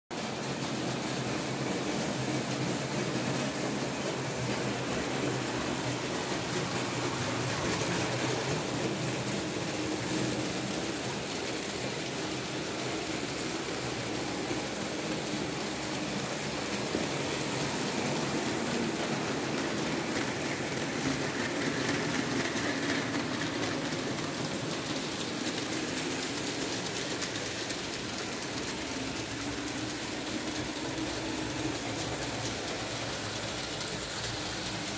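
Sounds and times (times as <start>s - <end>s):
model train whirring on metal track: 0.2s - 34.9s.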